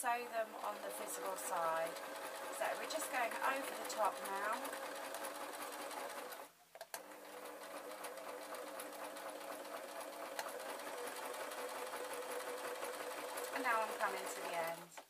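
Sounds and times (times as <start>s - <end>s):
sewing machine stitching: 0.0s - 15.0s
sewing machine clicks: 0.7s - 15.0s.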